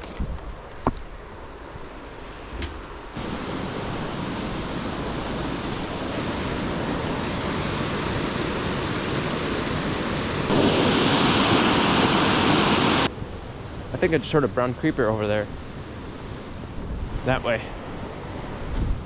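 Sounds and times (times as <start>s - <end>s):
steady rushing noise: 1.8s - 19.0s.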